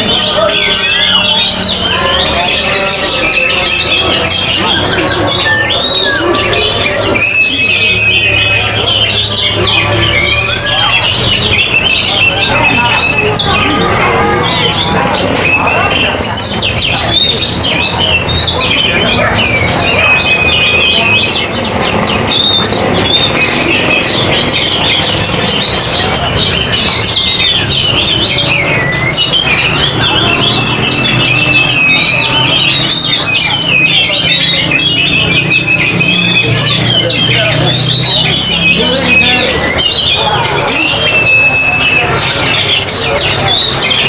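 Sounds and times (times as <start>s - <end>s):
birds whistling and trilling: 0.0s - 44.0s.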